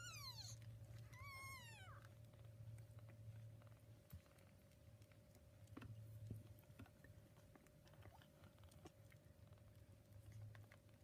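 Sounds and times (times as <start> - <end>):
kittens suckling wet clicks: 0.0 - 11.0
low uneven hum: 0.0 - 11.0.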